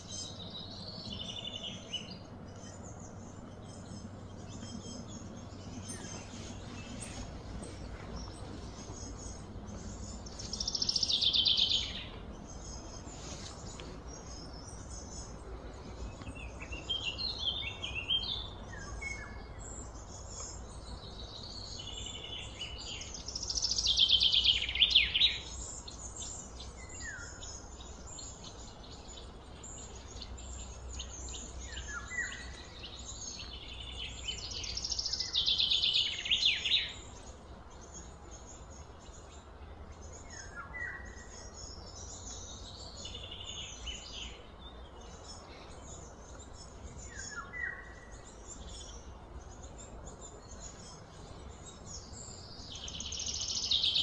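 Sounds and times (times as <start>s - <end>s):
songbird singing loud phrases: 0.0s - 54.0s
steady low background hum: 0.0s - 54.0s.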